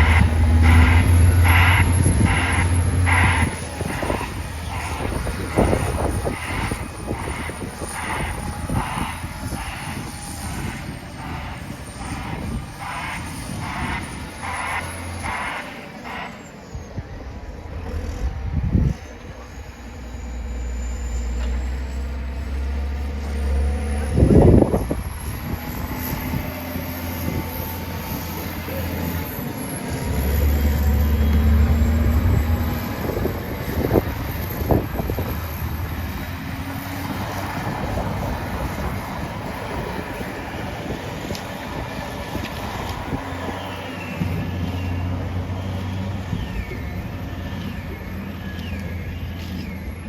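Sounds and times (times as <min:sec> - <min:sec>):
heavy diesel engine rumbling: 0:00.0 - 0:50.0.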